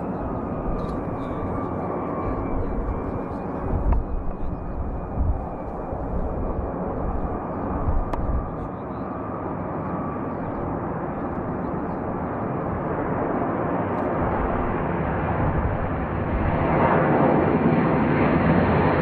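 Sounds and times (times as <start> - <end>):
rushing jet engine noise: 0.0 - 19.0.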